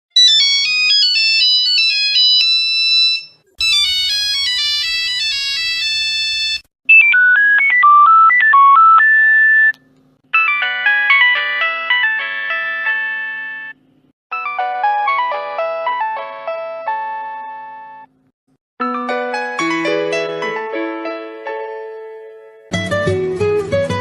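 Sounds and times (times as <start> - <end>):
phone ringtone melodies: 0.2 - 9.7, 10.3 - 18.1, 18.8 - 21.1.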